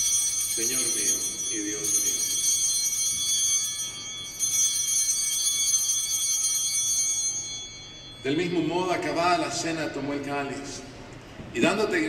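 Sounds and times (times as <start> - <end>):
altar bells ringing: 0.0 - 11.0.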